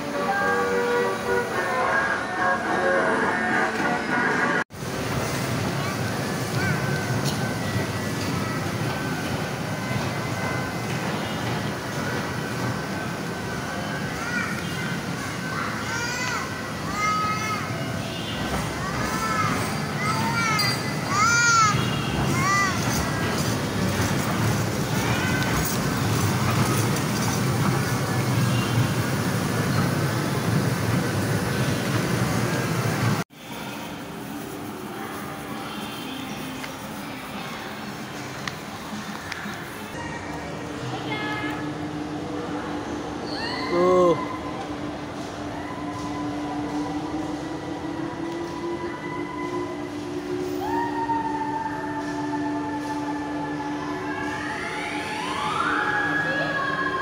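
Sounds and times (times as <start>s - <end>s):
faint music: 0.0s - 57.0s
rumble of busy indoor play area: 0.0s - 57.0s.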